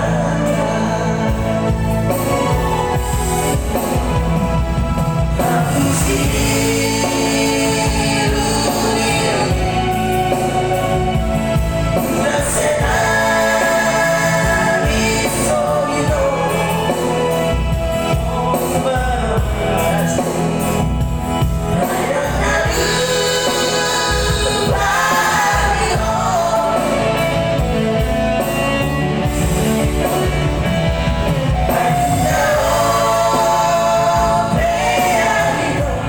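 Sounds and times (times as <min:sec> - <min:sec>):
instrumental accompaniment with bass: 0:00.0 - 0:36.0
voices singing a song: 0:00.0 - 0:36.0.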